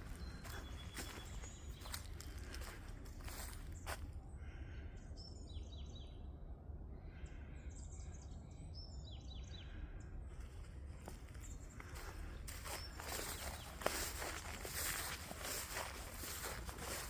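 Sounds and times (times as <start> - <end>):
songbird singing chirps: 0.0 - 17.0
steady low rumble: 0.0 - 17.0.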